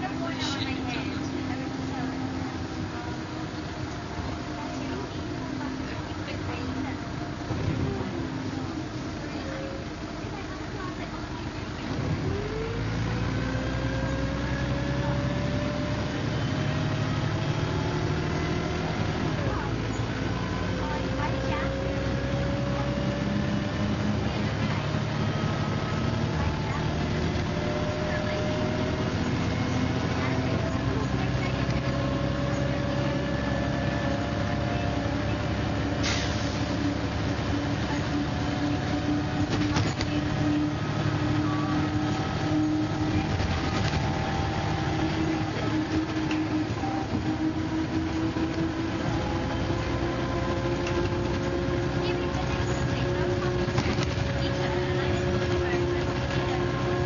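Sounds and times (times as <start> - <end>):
bus engine running: 0.0 - 57.0
rising whine of bus: 0.0 - 57.0.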